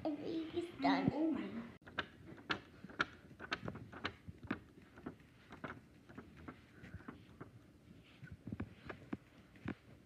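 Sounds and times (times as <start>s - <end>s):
paper puppet handling noise: 1.8s - 10.0s.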